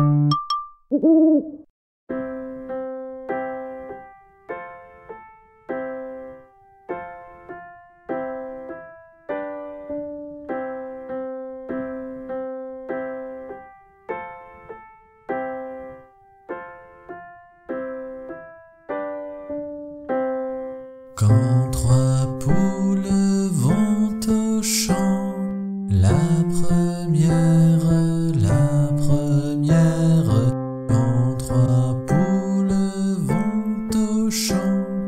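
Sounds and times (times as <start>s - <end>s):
slow keyboard melody: 0.0s - 1.4s, 2.1s - 35.0s.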